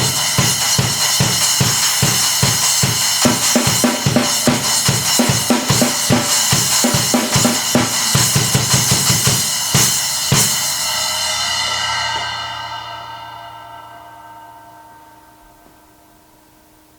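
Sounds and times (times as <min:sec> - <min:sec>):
drum kit playing: 0:00.0 - 0:14.2
cymbal hits ringing: 0:00.0 - 0:16.9.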